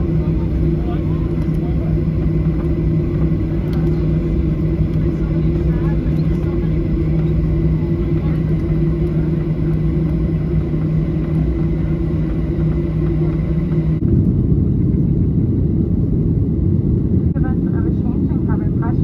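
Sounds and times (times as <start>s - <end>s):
airliner cabin engine drone: 0.0s - 19.0s
rough low rumble: 0.0s - 19.0s.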